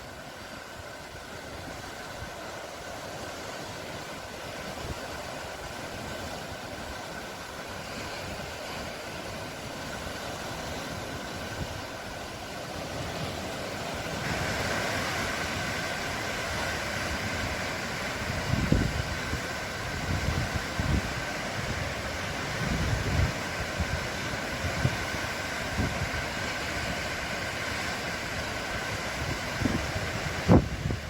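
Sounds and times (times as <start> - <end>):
sea waves washing ashore: 0.0 - 31.0.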